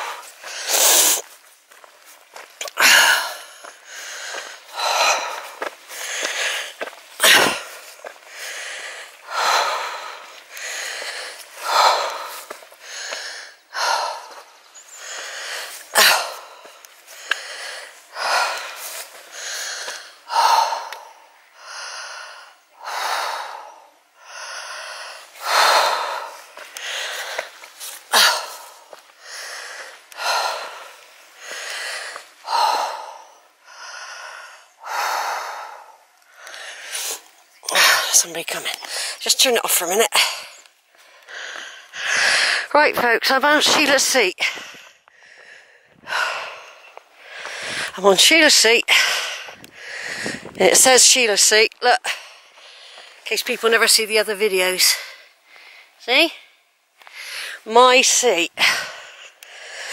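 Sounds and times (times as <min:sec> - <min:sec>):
heavy breathing: 0:00.0 - 0:39.2, 0:40.2 - 0:42.8, 0:43.8 - 0:50.6, 0:52.1 - 0:53.3, 0:54.8 - 0:57.9, 0:58.6 - 0:59.9.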